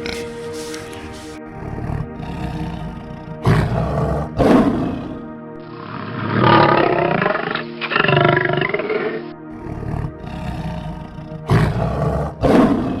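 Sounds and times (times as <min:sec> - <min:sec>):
background music: 0:00.0 - 0:13.0
large animal roaring: 0:01.4 - 0:13.0.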